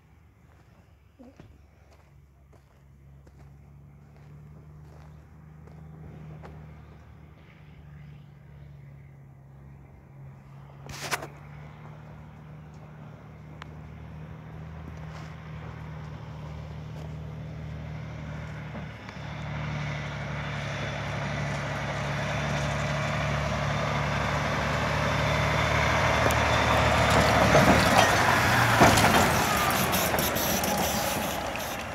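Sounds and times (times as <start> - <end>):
truck diesel engine running: 1.9 - 8.8, 9.4 - 31.9.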